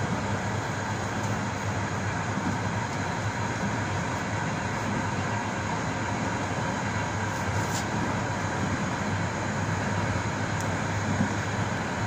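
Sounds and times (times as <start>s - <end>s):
train wheels rolling on track: 0.0s - 12.0s.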